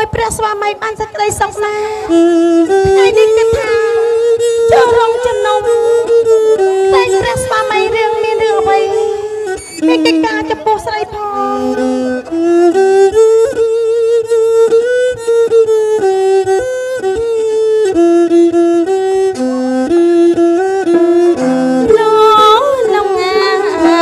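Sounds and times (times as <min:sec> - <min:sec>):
bowed string instrument melody: 0:00.0 - 0:24.0.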